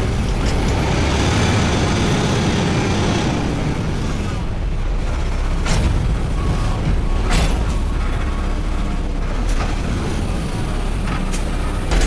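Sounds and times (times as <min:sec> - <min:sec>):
garbage truck engine running: 0:00.0 - 0:12.0.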